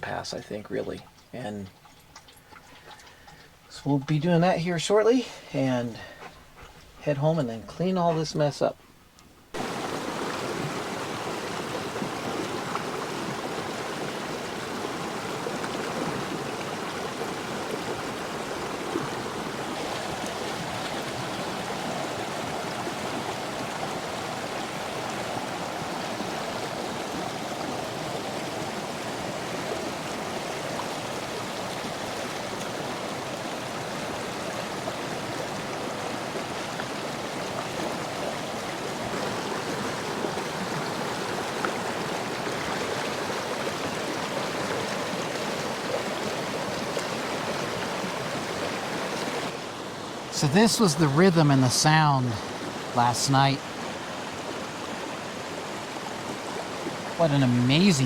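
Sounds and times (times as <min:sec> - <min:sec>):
mountain stream rushing: 0:09.5 - 0:58.0.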